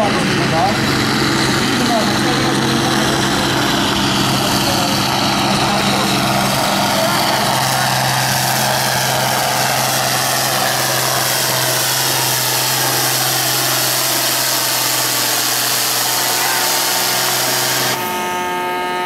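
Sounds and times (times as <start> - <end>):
tractor diesel engine under heavy load: 0.0 - 19.0.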